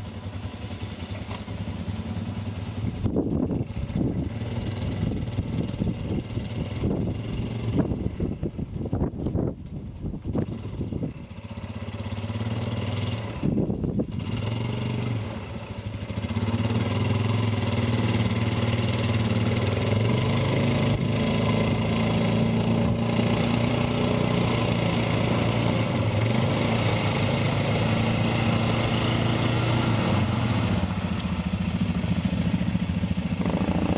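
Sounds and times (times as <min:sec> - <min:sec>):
quad bike engine running: 0:00.0 - 0:33.9.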